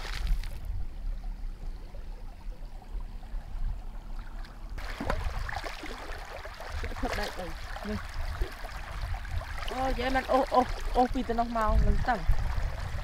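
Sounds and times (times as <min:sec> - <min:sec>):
faint low rumble: 0:00.0 - 0:13.0
muddy water rushing and lapping: 0:01.6 - 0:13.0.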